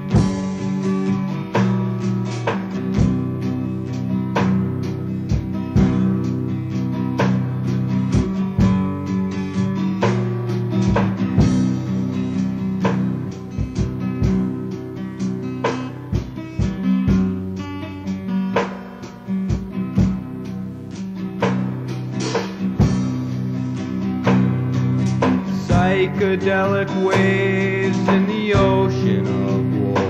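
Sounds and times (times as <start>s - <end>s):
rock music from cassette tape: 0.0s - 30.0s.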